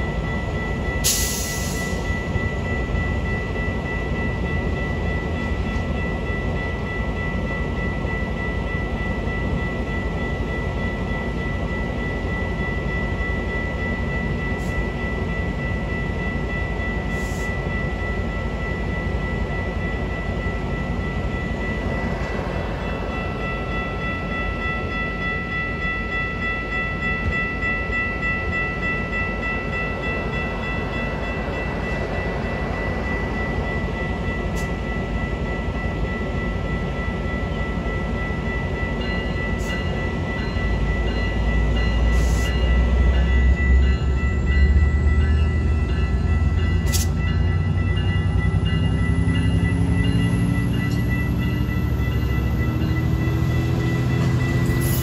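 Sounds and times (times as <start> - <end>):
high ringing tone: 0.0 - 55.0
train wheels rumbling on rails: 0.0 - 55.0.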